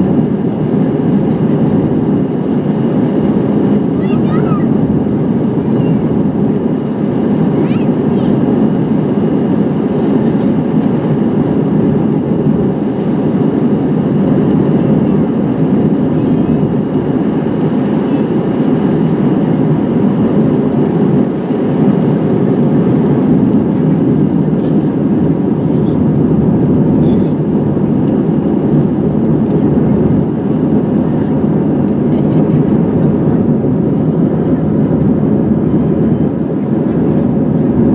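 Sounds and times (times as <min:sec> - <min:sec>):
airplane cabin drone: 0:00.0 - 0:37.9.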